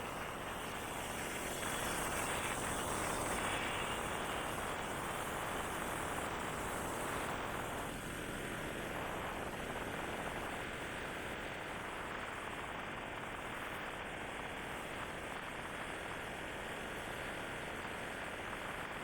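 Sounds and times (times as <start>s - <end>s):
wind and road noise from motorbike: 0.0s - 19.0s.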